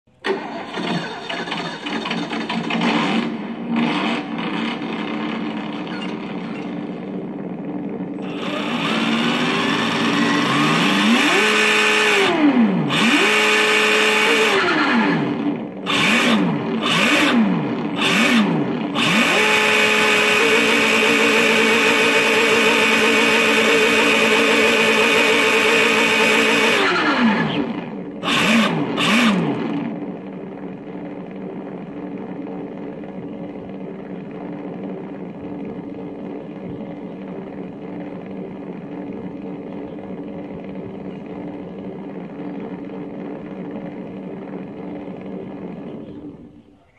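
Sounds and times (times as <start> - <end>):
engine revving and idling: 0.1 - 46.8.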